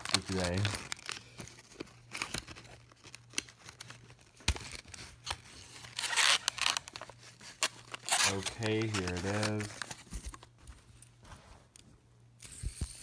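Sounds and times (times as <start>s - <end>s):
packaging clicks and crinkles: 0.0s - 10.6s
packaging rustling and tearing: 0.0s - 10.8s.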